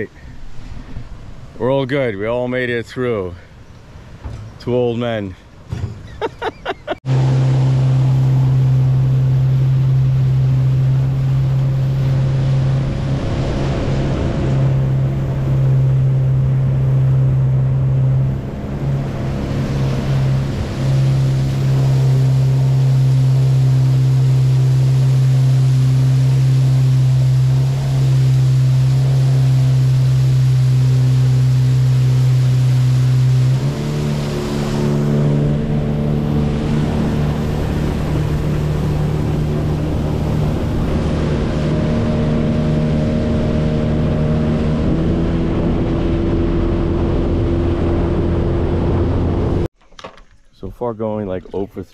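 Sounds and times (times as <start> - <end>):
outboard motor humming: 5.7 - 49.7.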